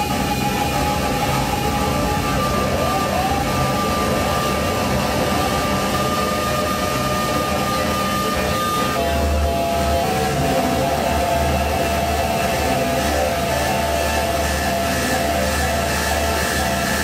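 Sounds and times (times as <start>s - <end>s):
rising pitch glide: 0.0s - 17.0s
rumbling electronic drone: 0.0s - 17.0s.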